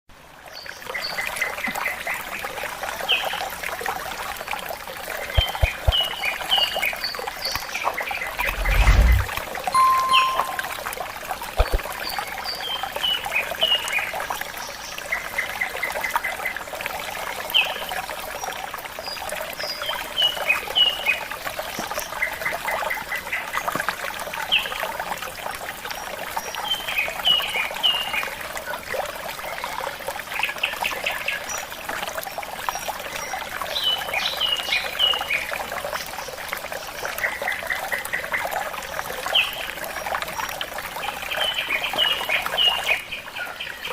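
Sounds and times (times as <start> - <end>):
running water: 0.3 - 43.9.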